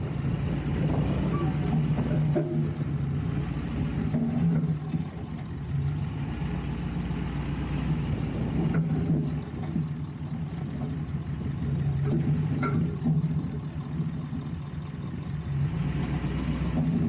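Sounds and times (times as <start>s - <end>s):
truck engine running low: 0.0s - 17.0s.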